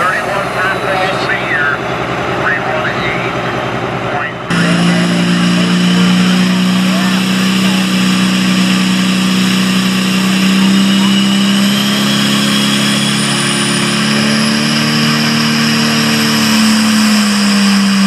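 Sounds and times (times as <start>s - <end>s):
diesel tractor engine at high revs: 0.0s - 18.0s.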